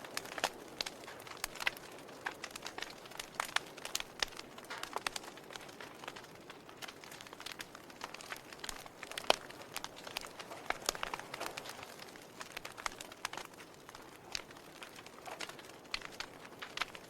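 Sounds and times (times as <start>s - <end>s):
log fire crackling: 0.0s - 17.0s
soft fire hiss: 0.0s - 17.0s.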